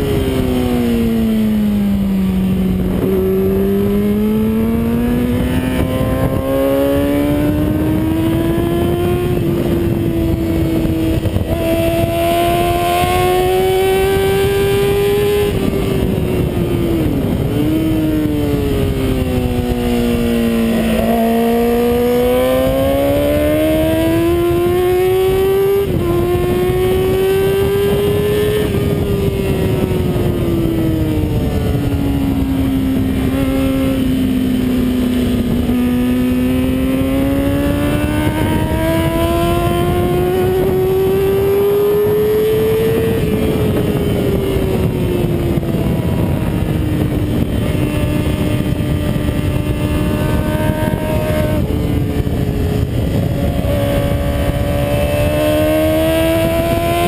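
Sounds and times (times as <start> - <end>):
motorcycle engine at race pace: 0.0 - 57.0
wind rush: 0.0 - 57.0.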